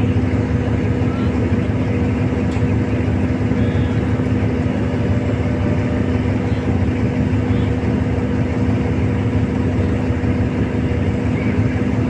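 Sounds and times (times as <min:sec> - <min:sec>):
heavy engine droning: 0:00.0 - 0:12.0.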